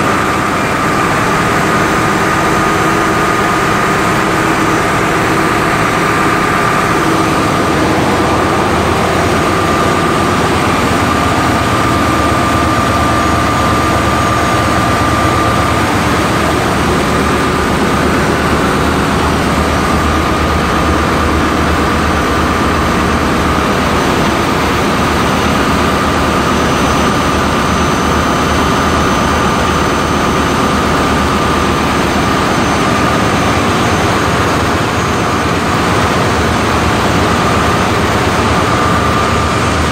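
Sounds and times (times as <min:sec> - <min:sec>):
air-conditioning machinery running: 0:00.0 - 0:39.9
high whine: 0:00.0 - 0:39.9.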